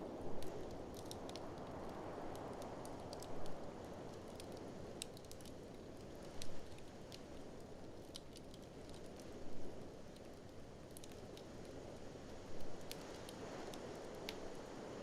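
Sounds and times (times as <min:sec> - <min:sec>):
wood fire crackling and popping: 0:00.1 - 0:15.0.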